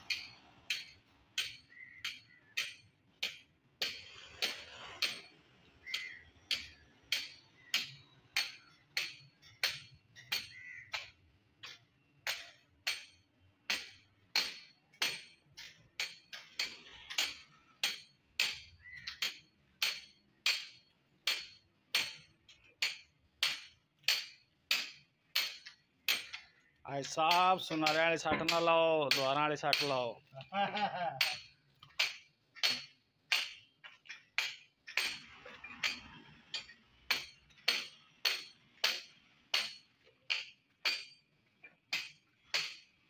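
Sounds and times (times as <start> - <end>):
hammer striking chisel: 0.0 - 26.6, 27.2 - 30.1, 31.2 - 43.0.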